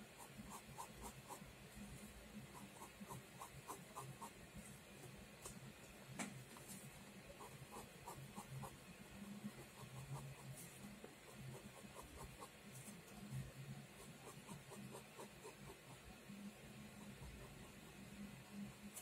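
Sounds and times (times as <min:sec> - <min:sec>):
pen scratching on paper: 0:00.0 - 0:01.6, 0:02.4 - 0:04.4, 0:07.3 - 0:19.0.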